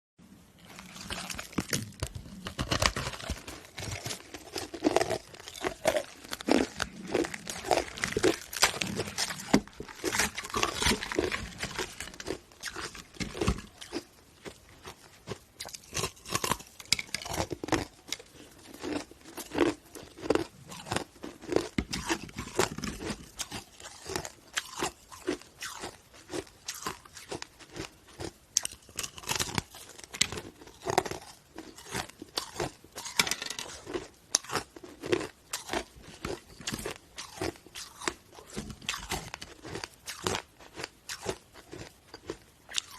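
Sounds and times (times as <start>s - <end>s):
ice being chewed: 0.6s - 42.9s.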